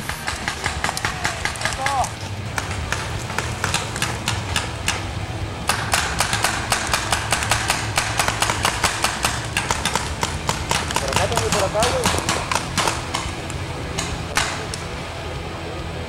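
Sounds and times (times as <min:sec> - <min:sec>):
paintball markers firing: 0:00.0 - 0:14.9.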